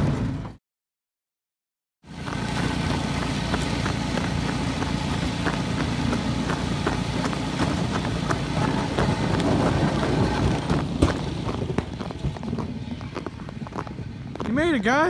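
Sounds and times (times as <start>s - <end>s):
boat motor running: 2.1s - 14.6s.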